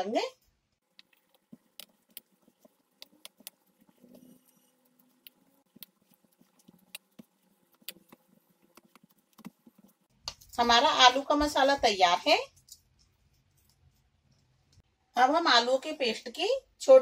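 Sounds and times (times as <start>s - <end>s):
mashed potato mixed in plastic bowl: 0.8s - 14.8s.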